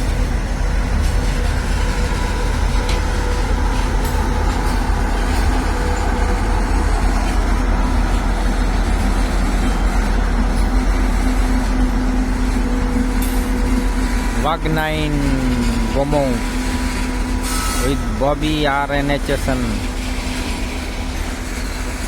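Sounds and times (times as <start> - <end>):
freight train rumbling by: 0.0 - 22.0
locomotive hum: 0.0 - 22.0.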